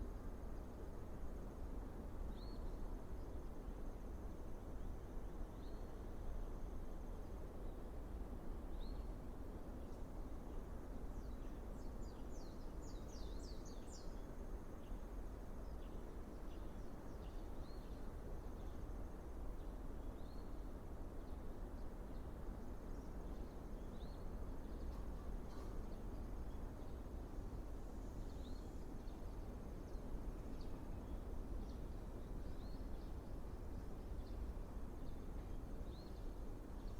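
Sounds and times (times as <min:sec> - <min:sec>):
faint high insect tone: 0:00.0 - 0:36.9
low outdoor background rumble: 0:00.0 - 0:36.9.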